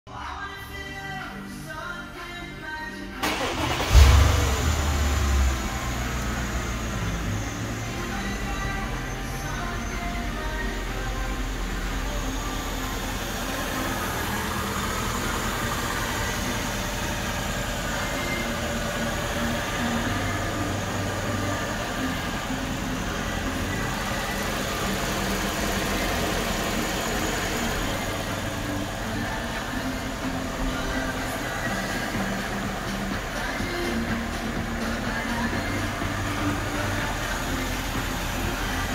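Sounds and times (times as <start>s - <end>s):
car engine idling: 0.4s - 38.9s.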